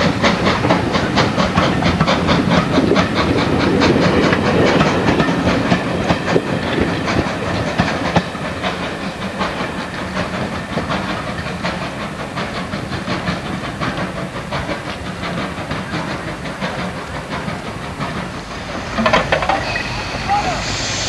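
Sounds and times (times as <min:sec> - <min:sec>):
train wheels clicking over rail joints: 0:00.0 - 0:21.0.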